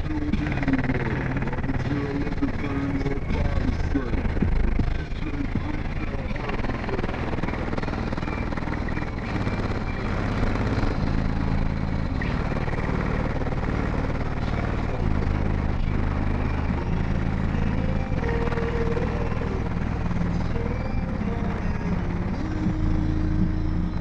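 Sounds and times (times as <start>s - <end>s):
car rattling buzz: 0.0s - 24.0s
loud bass notes from car subwoofers: 0.0s - 24.0s.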